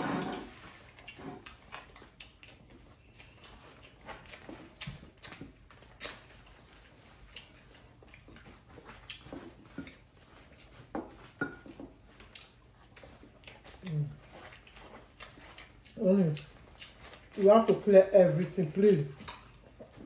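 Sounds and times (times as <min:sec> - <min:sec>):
chewing and mouth sounds: 0:00.0 - 0:20.0.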